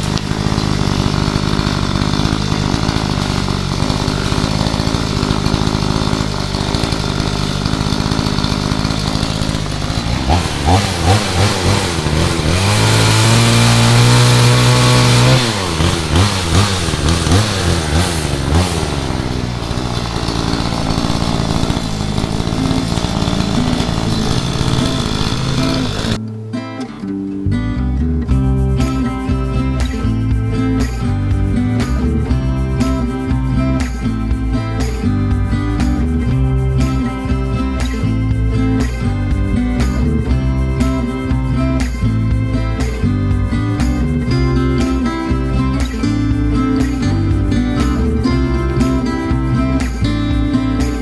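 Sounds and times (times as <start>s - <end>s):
chainsaw running and revving: 0.0s - 26.2s, 31.3s - 51.0s.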